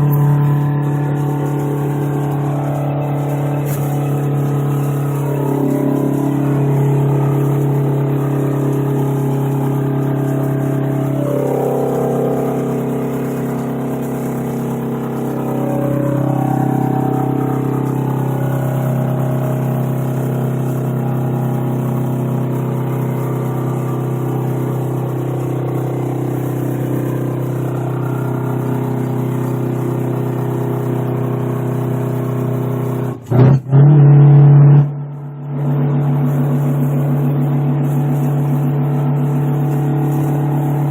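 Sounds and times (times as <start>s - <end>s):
diesel truck engine running: 0.0s - 40.9s
distorted microphone overload: 0.0s - 40.9s.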